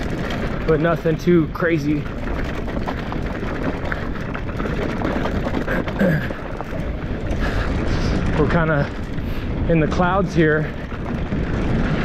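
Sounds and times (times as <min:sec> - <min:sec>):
bike rattling: 0:00.0 - 0:12.0
tyres on loose gravel: 0:00.0 - 0:12.0
wind rumbling on microphone: 0:00.0 - 0:12.0.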